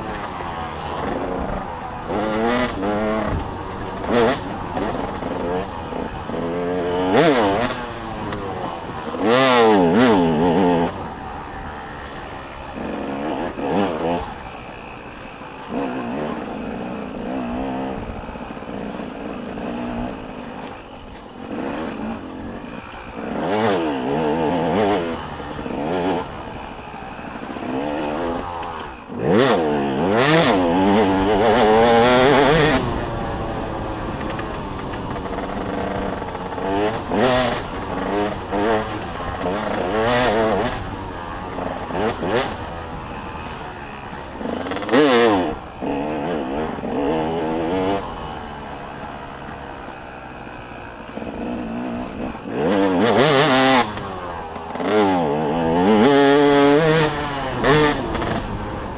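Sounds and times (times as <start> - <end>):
motocross bikes revving past: 0.0 - 58.9.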